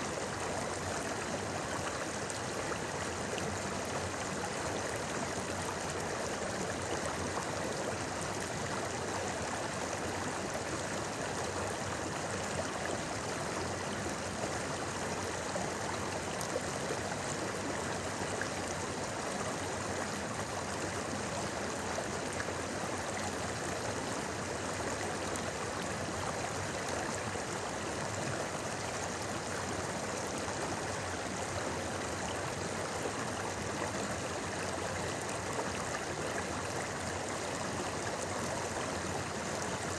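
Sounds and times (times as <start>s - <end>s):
stream burbling over rocks: 0.0s - 39.9s.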